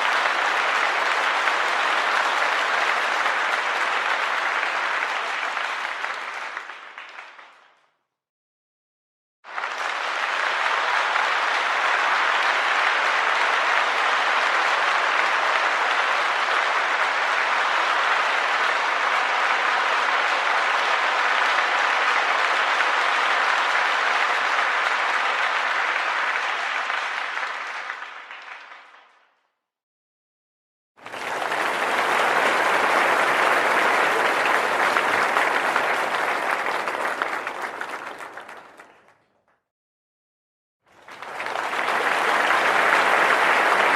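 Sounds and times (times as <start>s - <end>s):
crowd applause: 0.0s - 7.8s, 9.5s - 29.3s, 31.0s - 39.6s, 40.9s - 43.9s.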